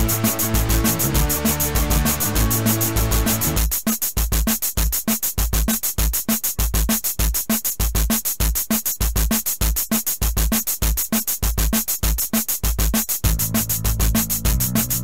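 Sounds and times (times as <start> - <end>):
background music with fast beat: 0.0 - 15.0.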